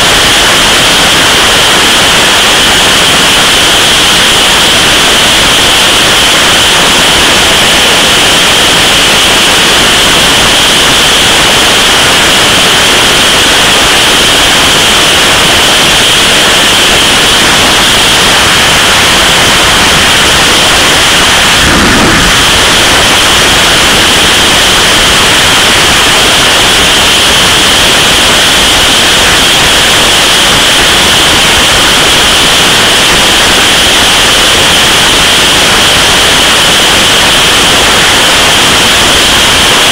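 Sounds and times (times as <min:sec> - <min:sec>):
wind blasting on microphone: 0:00.0 - 0:39.9.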